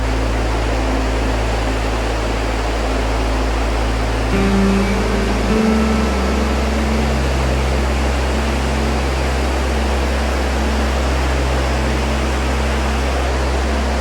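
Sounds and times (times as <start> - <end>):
dense steady hiss: 0.0 - 14.0
held low bass note: 0.0 - 14.0.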